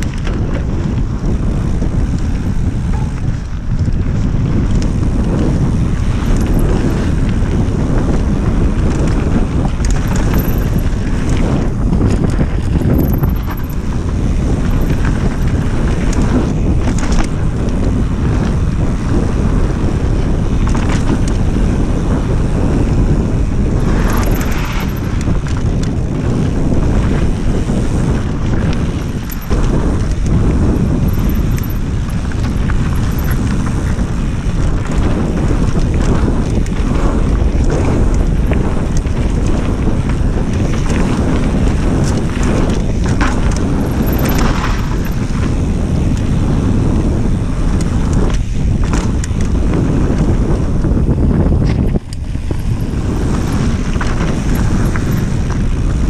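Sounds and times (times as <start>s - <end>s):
tyres rolling on dirt: 0.0s - 50.6s, 51.5s - 56.0s
bike knocking and rattling: 0.0s - 56.0s
wind rushing over microphone: 0.0s - 56.0s.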